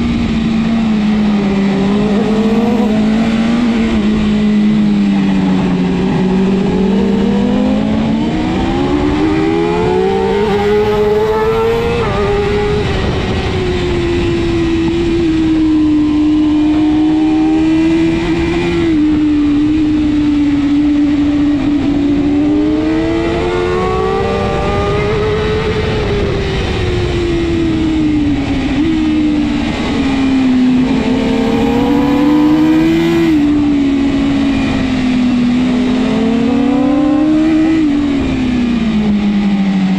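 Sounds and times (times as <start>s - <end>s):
motorcycle engine racing: 0.0s - 39.9s
wind noise: 0.0s - 39.9s.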